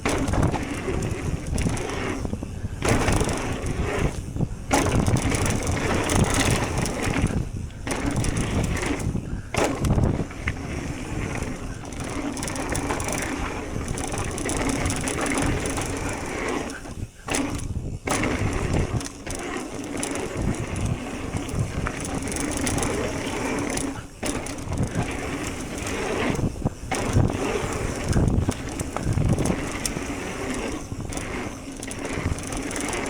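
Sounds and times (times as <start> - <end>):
bike rattling: 0.0 - 33.0
bike tyres on dirt trail: 0.0 - 33.0
wind buffeting microphone: 0.0 - 33.0.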